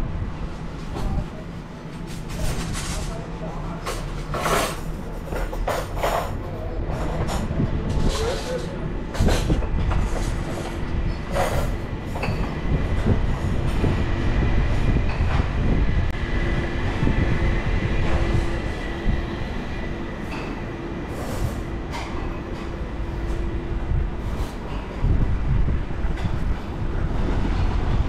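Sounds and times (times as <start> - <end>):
steady mechanical hum: 0.0 - 28.0
wind buffeting microphone: 0.0 - 28.0.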